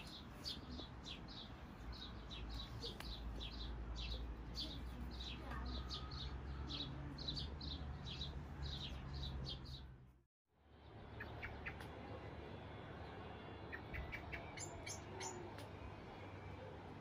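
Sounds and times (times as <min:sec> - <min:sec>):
small birds chirping: 0:00.0 - 0:10.2, 0:10.8 - 0:12.3, 0:13.0 - 0:17.0.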